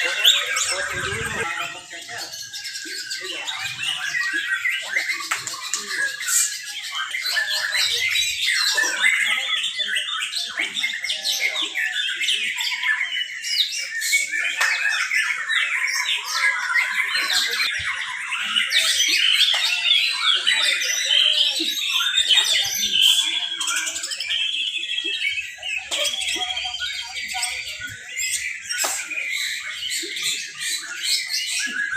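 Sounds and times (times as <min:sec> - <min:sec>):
songbirds chorus: 0:00.0 - 0:31.9.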